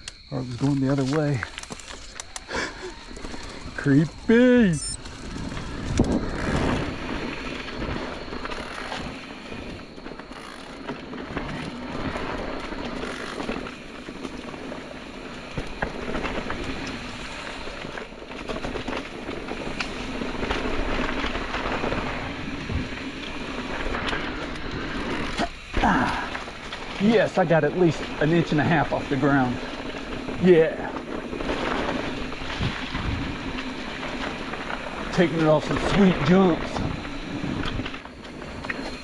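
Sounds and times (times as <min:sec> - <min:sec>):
bike clicking and rattling: 0:00.0 - 0:39.0
bike tyres on dirt trail: 0:00.0 - 0:39.0.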